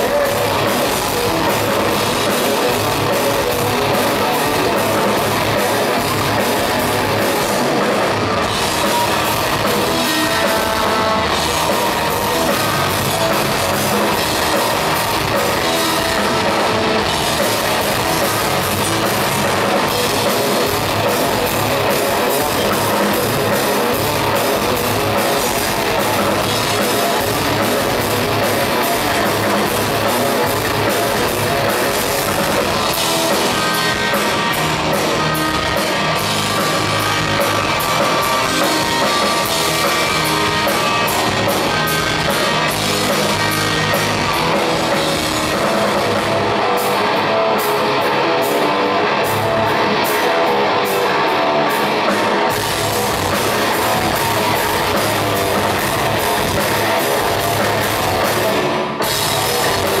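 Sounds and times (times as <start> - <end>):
electric bass: 0.0 - 60.0
electric guitar: 0.0 - 60.0.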